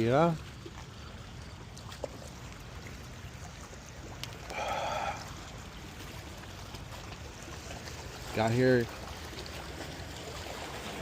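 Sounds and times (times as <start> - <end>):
river water and wind: 0.0 - 11.0.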